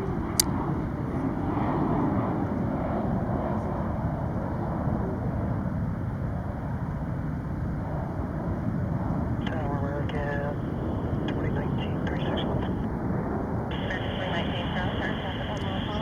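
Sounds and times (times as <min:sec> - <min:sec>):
distant jet aircraft rumble: 0:00.0 - 0:16.0.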